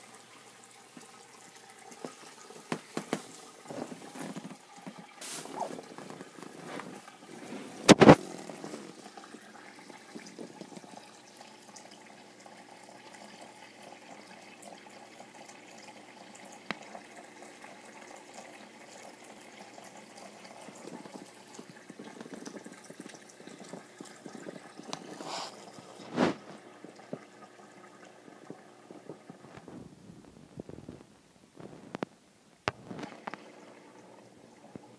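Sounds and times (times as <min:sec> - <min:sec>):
water trickling: 0:00.0 - 0:32.1, 0:32.7 - 0:34.9.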